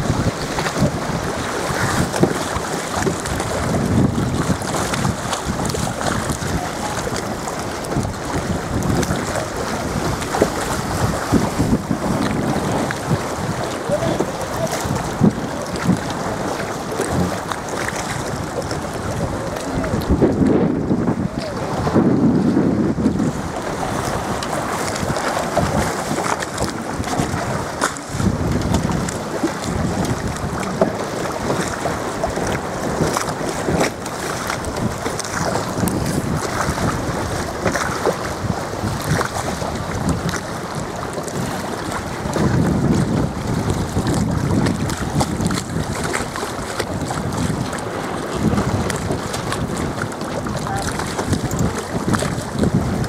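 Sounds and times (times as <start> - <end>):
water splashing against boat hull: 0.0 - 53.0
wind buffeting microphone: 0.0 - 53.0.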